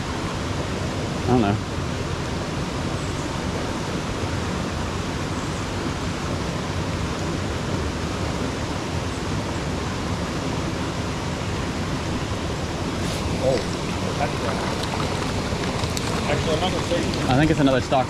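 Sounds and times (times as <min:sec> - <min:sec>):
creek flowing over rocks: 0:00.0 - 0:18.0.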